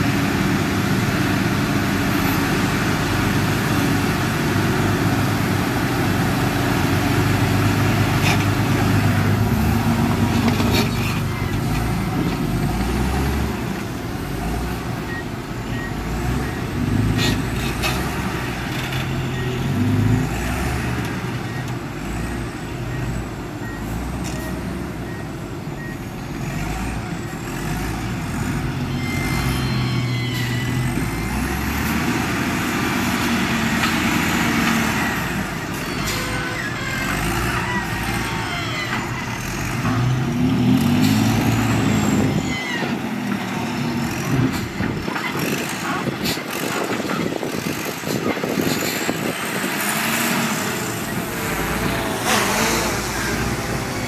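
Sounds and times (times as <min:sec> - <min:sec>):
diesel engine working under load: 0:00.0 - 0:54.0.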